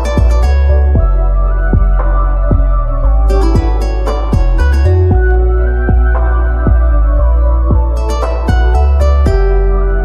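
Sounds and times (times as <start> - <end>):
soft kick drum thumps: 0.0 - 9.7
gentle new-age instrumental music: 0.0 - 10.0.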